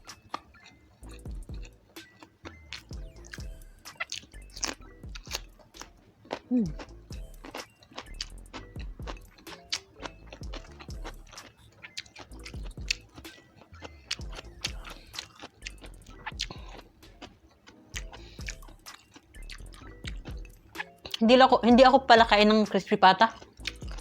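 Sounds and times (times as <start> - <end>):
wet mouth sounds: 0.0 - 21.2, 23.3 - 24.0
crispy food crunching: 0.1 - 21.2.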